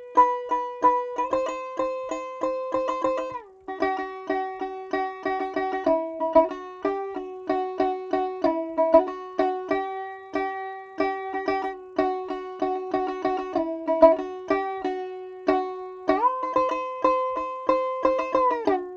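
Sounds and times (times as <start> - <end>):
plucked string melody: 0.0 - 18.9.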